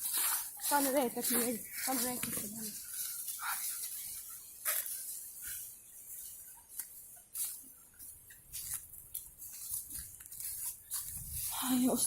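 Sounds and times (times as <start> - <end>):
footsteps on dry leaves: 0.0 - 12.0.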